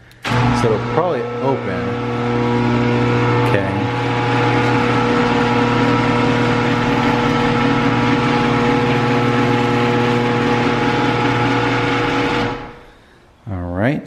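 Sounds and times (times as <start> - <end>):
garage door opener motor humming: 0.2 - 13.0.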